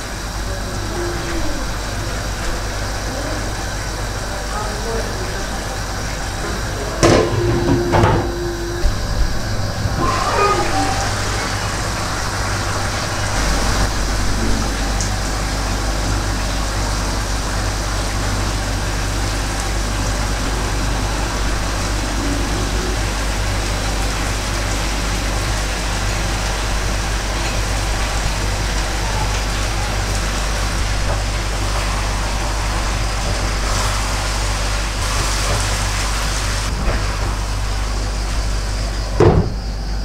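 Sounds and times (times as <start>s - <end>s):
low hum: 0.0s - 36.2s
stew simmering with steam hiss: 0.0s - 39.3s.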